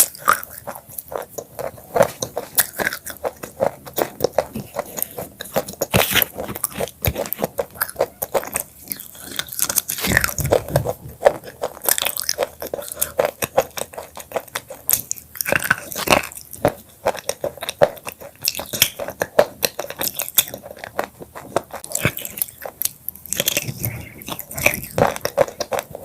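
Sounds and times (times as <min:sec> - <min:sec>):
crunching chips: 0:00.0 - 0:26.0.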